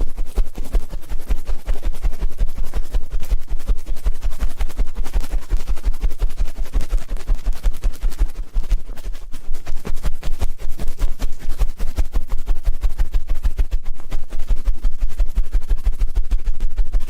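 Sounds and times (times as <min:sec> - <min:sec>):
ear pick scratching on microphone: 0:00.0 - 0:17.0.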